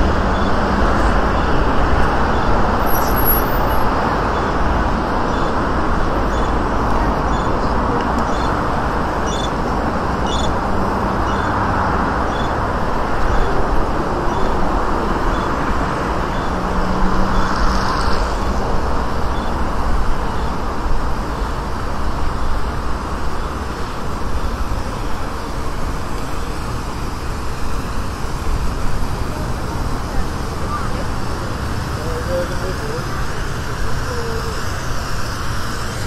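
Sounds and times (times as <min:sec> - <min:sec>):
road traffic: 0:00.0 - 0:36.0.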